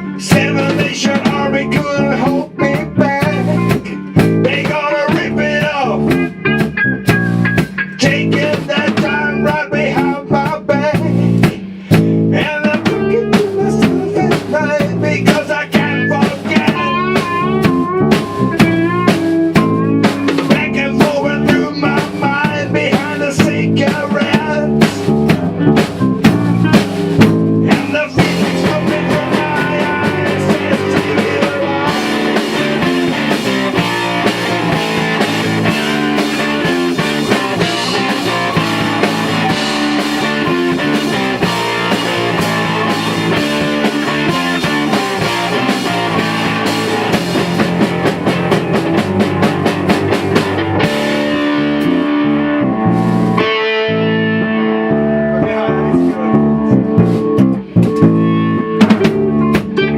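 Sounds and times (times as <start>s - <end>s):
rock band playing: 0.0s - 59.9s
wavering guitar lead line: 0.0s - 59.9s.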